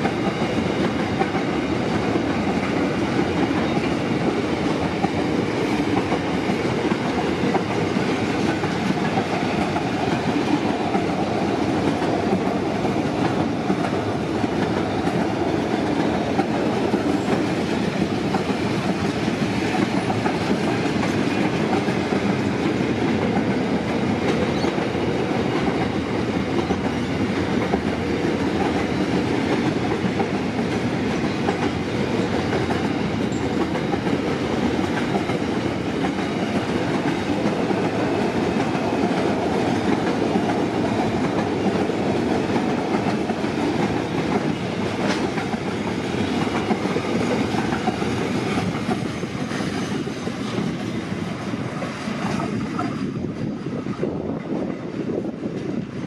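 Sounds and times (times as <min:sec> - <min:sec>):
steel wheels running on rails: 0:00.0 - 0:56.0.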